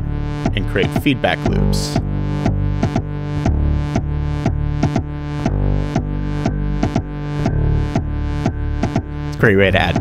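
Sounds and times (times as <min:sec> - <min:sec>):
electronic music: 0:00.0 - 0:10.0
kick drum and bass: 0:00.0 - 0:10.0.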